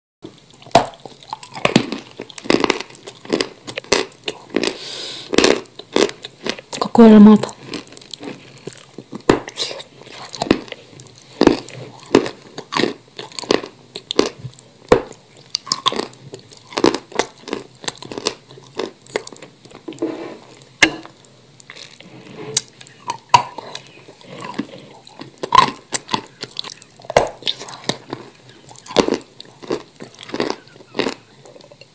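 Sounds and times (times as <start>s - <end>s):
wet chewing: 0.2s - 31.9s
crisp crunching bites: 0.4s - 6.8s, 7.4s - 22.0s, 22.6s - 31.7s.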